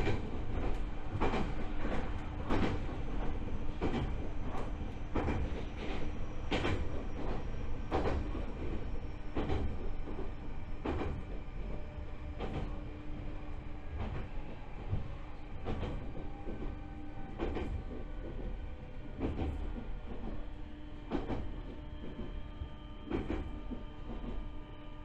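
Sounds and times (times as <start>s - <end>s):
train rolling and motor hum: 0.0s - 25.0s.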